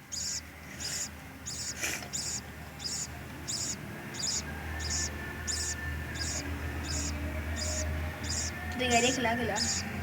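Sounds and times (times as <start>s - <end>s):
parrot chirping: 0.1s - 9.9s.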